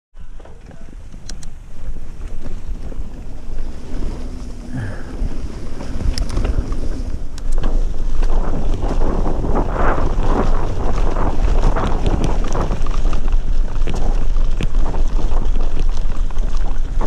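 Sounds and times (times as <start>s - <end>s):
bike rattles and clicks: 0.2s - 17.0s
tyres on wet gravel: 0.2s - 17.0s
wind buffeting microphone: 0.2s - 17.0s.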